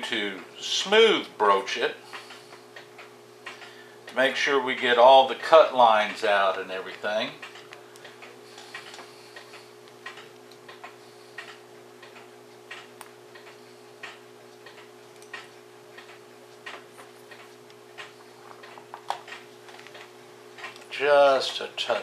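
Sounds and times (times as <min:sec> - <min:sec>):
steady low hum: 0:00.0 - 0:22.0
mechanical clock ticking: 0:01.2 - 0:22.0.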